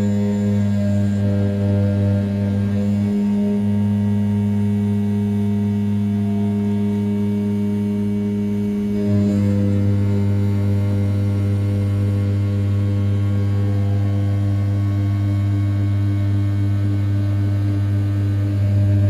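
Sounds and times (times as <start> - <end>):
milling machine spindle humming: 0.0 - 19.0.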